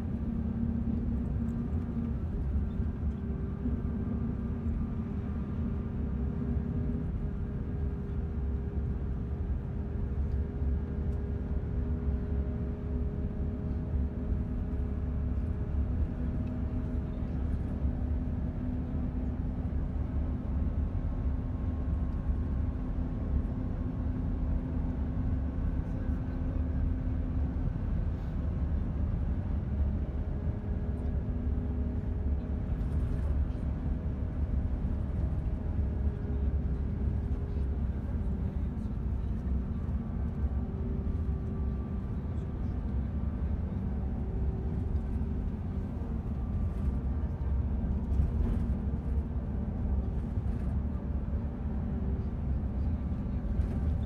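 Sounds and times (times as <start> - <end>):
road noise low rumble: 0.0 - 54.0
vehicle engine hum: 0.0 - 54.0.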